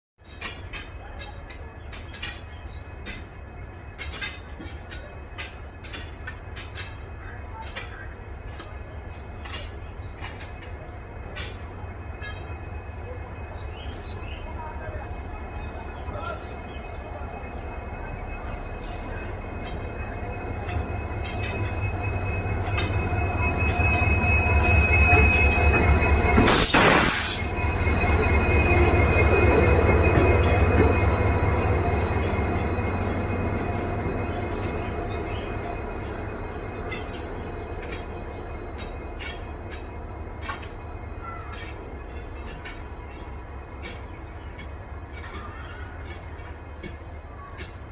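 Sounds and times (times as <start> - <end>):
diesel locomotive engine rumbling: 0.2 - 47.9
thin high whine: 9.1 - 47.5.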